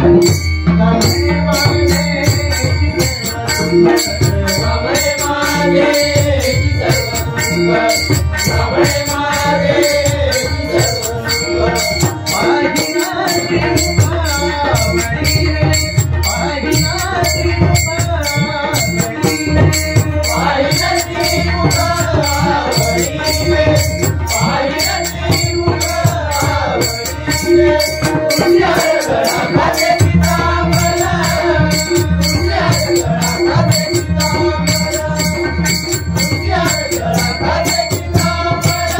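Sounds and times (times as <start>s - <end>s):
hand drums playing: 0.0s - 38.9s
wavering melody: 0.0s - 38.9s.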